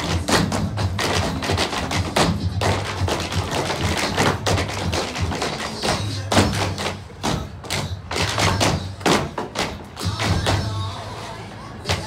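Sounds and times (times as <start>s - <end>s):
tap shoes on stage floor: 0.0s - 10.8s.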